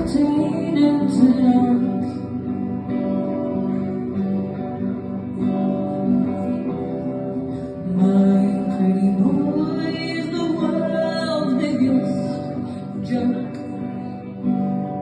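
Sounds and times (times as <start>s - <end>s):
live band with guitar: 0.0s - 15.0s.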